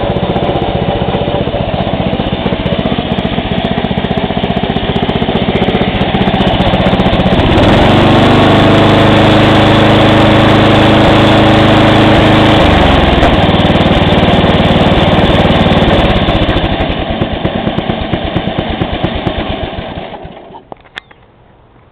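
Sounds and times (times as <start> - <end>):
lawn tractor engine running: 0.0 - 21.2.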